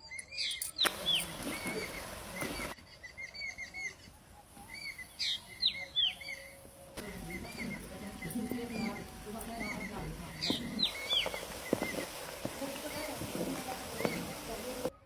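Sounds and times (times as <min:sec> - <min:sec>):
birds chirping: 0:00.0 - 0:15.0
background hiss: 0:00.6 - 0:15.0.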